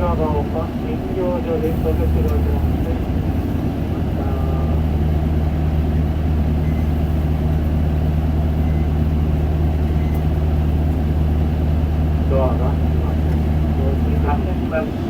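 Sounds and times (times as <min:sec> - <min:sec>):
bus diesel engine humming: 0:00.0 - 0:15.0.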